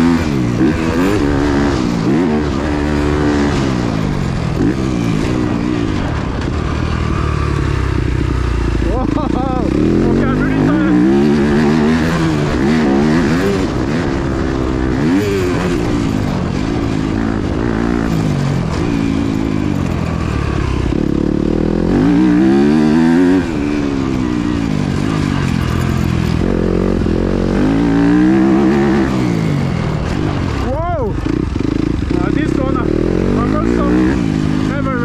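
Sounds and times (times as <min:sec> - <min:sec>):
motocross engine revving: 0:00.0 - 0:35.0.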